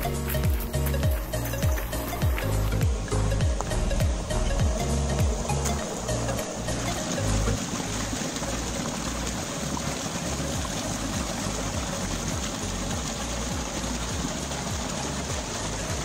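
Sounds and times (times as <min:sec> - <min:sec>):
waterfall splashing into a pool: 0:00.0 - 0:16.0.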